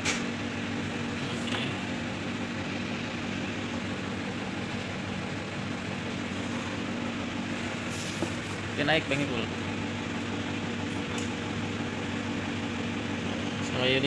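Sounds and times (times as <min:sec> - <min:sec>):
hydraulic pump motor humming: 0:00.0 - 0:14.0.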